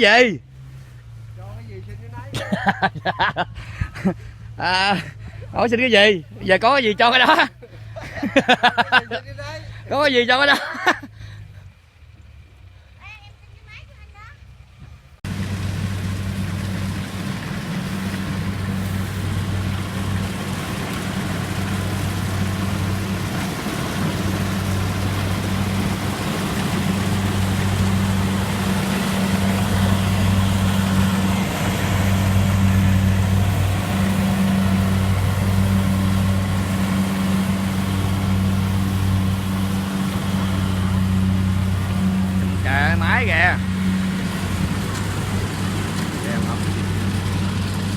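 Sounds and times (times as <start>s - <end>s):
diesel engine humming: 0.0s - 47.9s.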